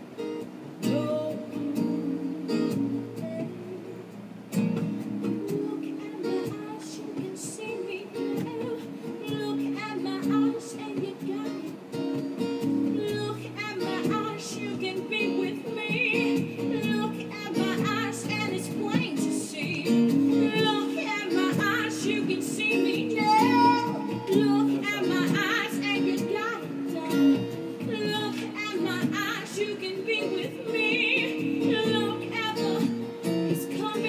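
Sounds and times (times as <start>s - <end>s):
person singing: 0.8s - 4.3s, 5.2s - 12.2s, 12.9s - 34.0s.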